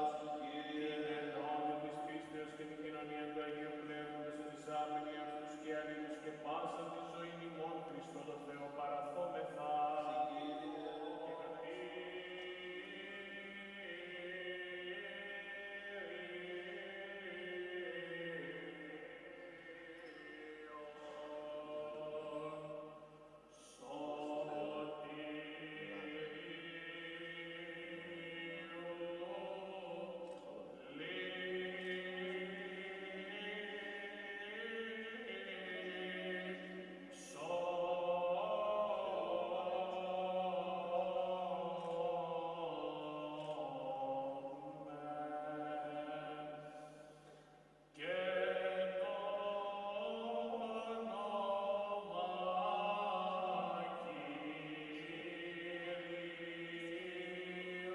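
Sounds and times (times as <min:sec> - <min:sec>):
liturgical chant singing: 0:00.0 - 0:57.9.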